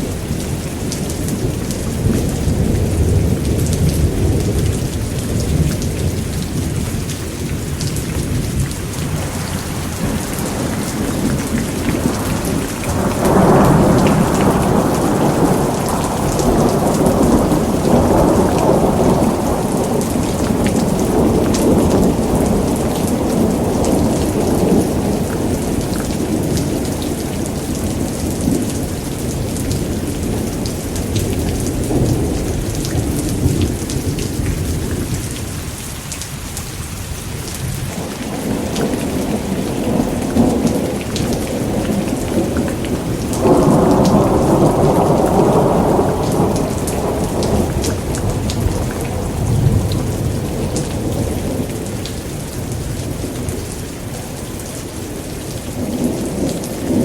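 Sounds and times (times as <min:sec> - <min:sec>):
rolling thunder: 0:00.0 - 0:35.6, 0:37.5 - 0:57.0
heavy rain: 0:00.0 - 0:57.0.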